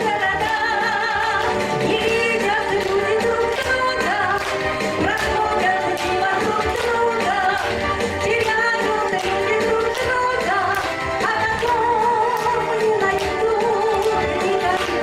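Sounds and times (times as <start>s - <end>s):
pop backing track with beat: 0.0s - 15.0s
woman singing: 0.0s - 15.0s.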